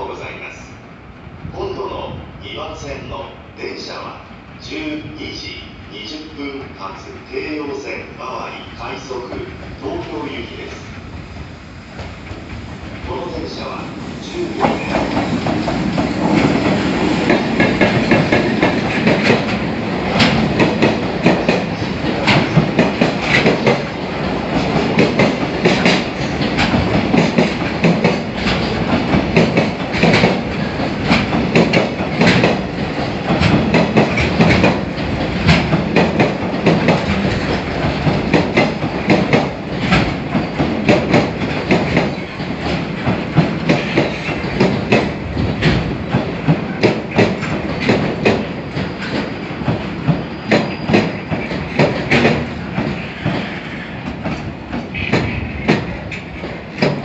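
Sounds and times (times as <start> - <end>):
train wheels clattering on rails: 8.8 - 57.0.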